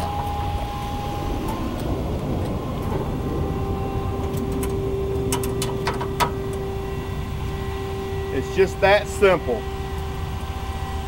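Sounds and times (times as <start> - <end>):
low mechanical rumble: 0.0 - 11.0
steady hum: 0.0 - 11.0.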